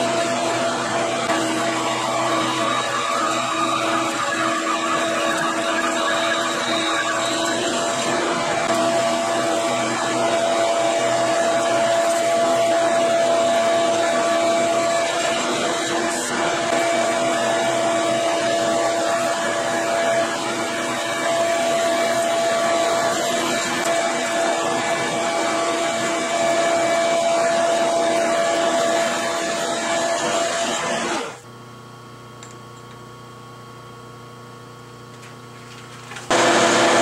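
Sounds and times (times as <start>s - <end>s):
metal lathe whine: 0.0s - 31.4s, 36.3s - 37.0s
tool cutting steel: 0.0s - 31.4s.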